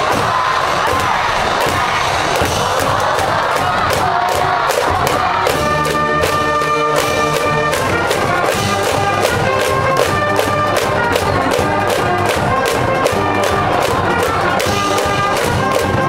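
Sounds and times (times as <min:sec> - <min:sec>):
brass band playing: 0:00.0 - 0:16.0
steady drum beat: 0:00.0 - 0:16.0.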